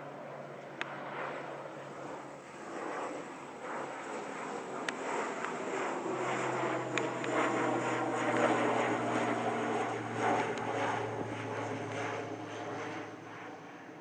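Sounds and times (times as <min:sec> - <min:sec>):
airliner engines humming: 0:00.0 - 0:14.0.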